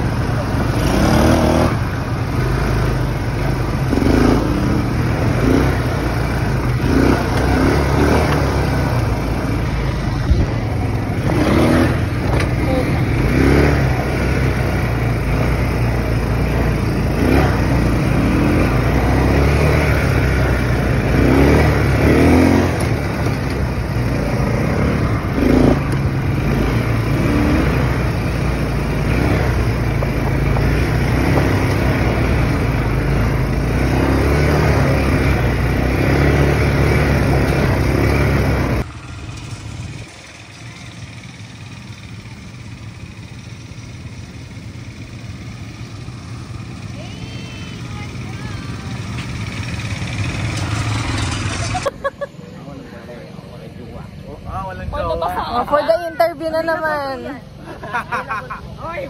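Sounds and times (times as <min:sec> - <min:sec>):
quad bike engine revving: 0:00.0 - 0:55.4.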